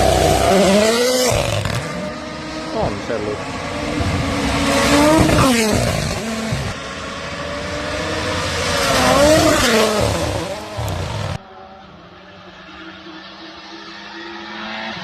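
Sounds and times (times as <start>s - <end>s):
rally cars passing at full throttle: 0.0s - 15.0s.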